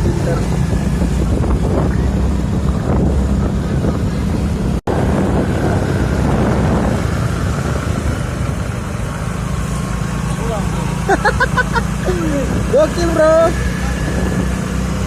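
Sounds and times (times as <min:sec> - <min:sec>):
wind buffeting microphone: 0:00.0 - 0:09.6, 0:12.0 - 0:15.0
motorcycle engine running: 0:00.0 - 0:15.0.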